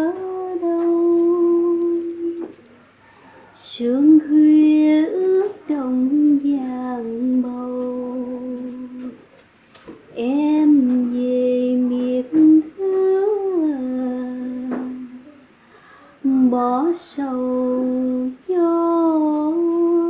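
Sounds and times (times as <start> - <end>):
woman singing a lullaby: 0.0 - 2.6, 3.6 - 9.3, 10.1 - 15.5, 16.2 - 20.0.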